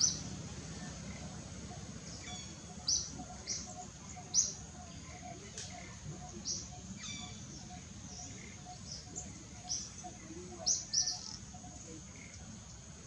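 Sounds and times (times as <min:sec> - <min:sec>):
birds chirping: 0:00.0 - 0:13.0
low background noise: 0:00.0 - 0:13.0.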